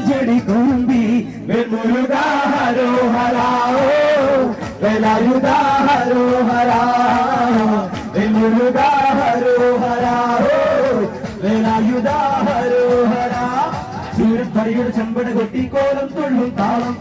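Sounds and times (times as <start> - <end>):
men singing through microphones: 0.0 - 17.0.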